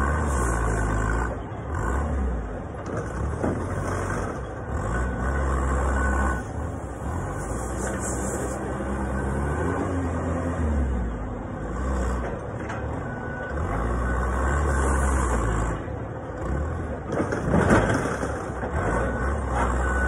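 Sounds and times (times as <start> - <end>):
forklift engine revving: 0.0 - 20.0.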